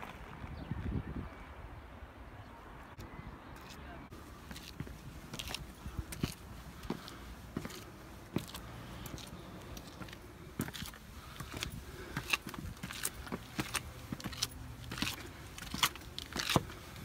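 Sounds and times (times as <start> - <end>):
footsteps on gravelly stone steps: 0.0 - 0.6, 3.5 - 17.0.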